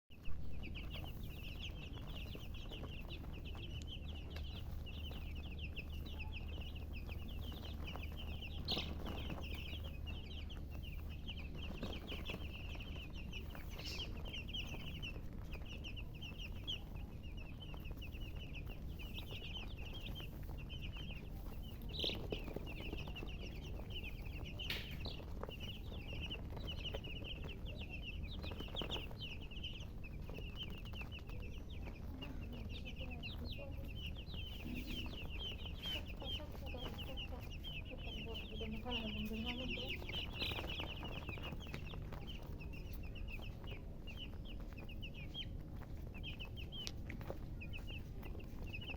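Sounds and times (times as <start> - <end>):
chicks peeping: 0.1 - 48.9
steady low hum: 0.1 - 48.9.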